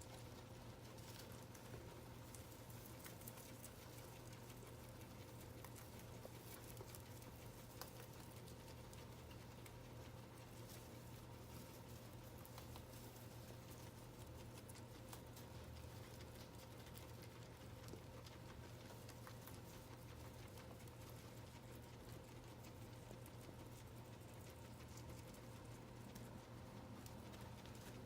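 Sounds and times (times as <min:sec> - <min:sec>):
guinea pigs chewing hay: 0:00.0 - 0:28.0
steady low hum: 0:00.0 - 0:28.0.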